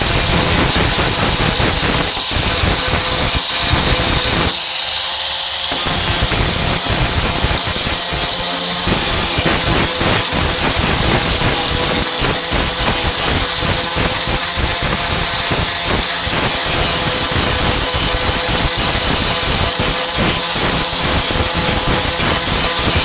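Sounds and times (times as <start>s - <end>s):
angle grinder grinding steel: 0.0s - 23.0s.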